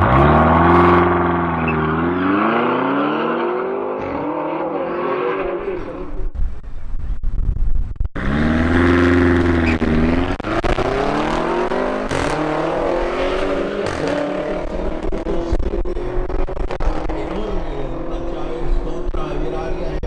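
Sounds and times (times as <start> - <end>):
car engines at full throttle: 0.0 - 20.0.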